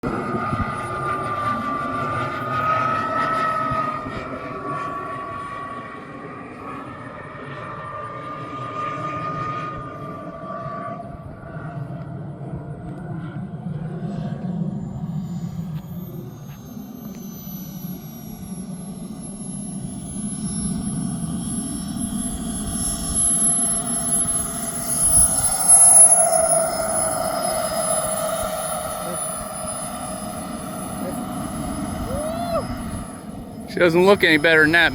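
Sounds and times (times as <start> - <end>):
model jet turbine whining: 0.0 - 34.9.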